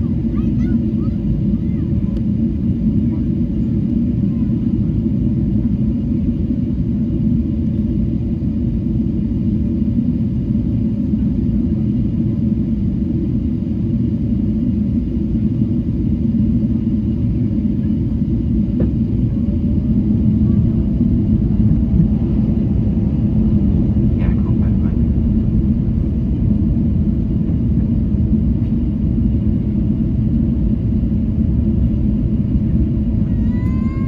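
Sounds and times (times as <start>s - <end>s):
aircraft engine and airflow rumble: 0.0s - 34.0s.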